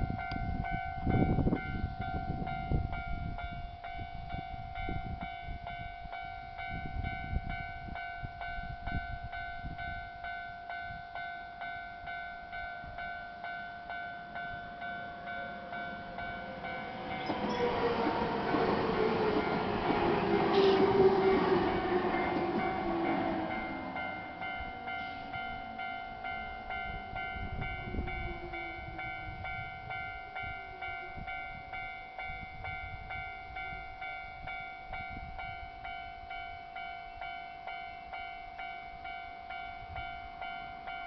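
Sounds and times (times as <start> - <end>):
electric train approaching: 0.0 - 41.0
level-crossing bell ringing: 0.1 - 41.0.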